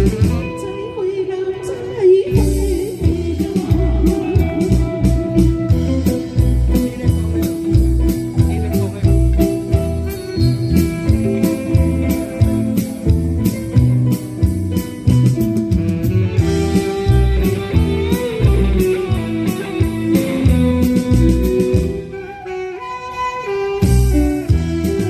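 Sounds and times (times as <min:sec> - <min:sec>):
steady drum beat: 0:00.0 - 0:00.6, 0:02.4 - 0:22.2, 0:23.8 - 0:25.0
bass: 0:00.0 - 0:00.9, 0:02.3 - 0:22.3, 0:23.8 - 0:25.0
guitar melody: 0:00.0 - 0:25.0.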